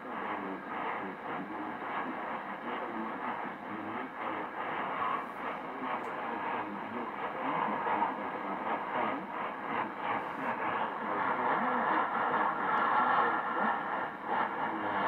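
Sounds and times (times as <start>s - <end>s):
muffled radio broadcast: 0.0s - 15.0s
radio static hiss: 0.0s - 15.0s.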